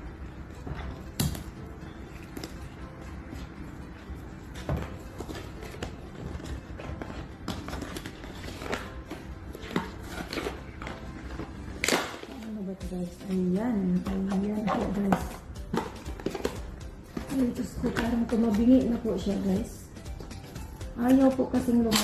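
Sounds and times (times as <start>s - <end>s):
faint background music: 0.0s - 22.0s.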